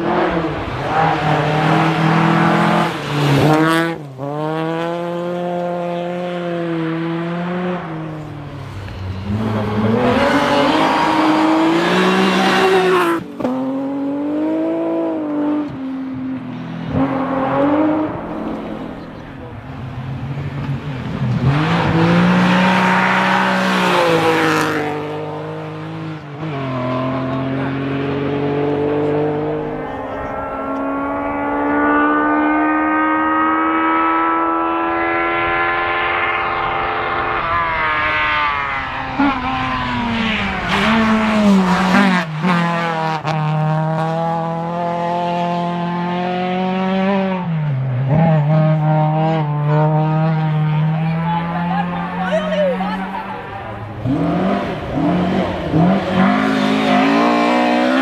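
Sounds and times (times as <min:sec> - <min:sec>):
rally car engine revving through gears: 0:00.0 - 0:15.9, 0:20.2 - 0:58.0.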